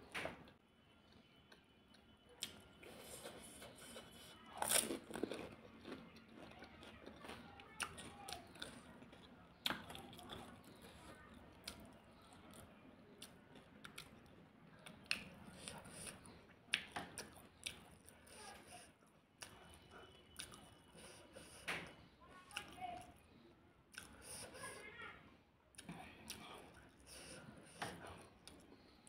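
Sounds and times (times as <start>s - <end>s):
chewing and lip smacks: 0.5s - 23.2s, 23.9s - 24.6s, 25.7s - 29.0s
crunch of crisp puri bitten: 0.5s - 24.8s.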